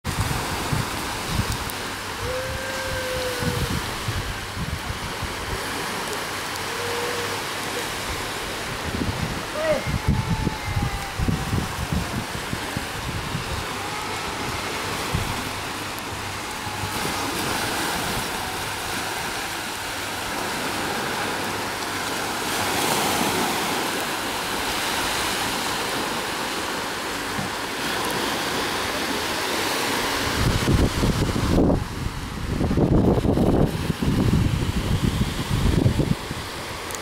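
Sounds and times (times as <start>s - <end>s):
wind on microphone: 0.0s - 37.0s
water rushing: 0.1s - 37.0s.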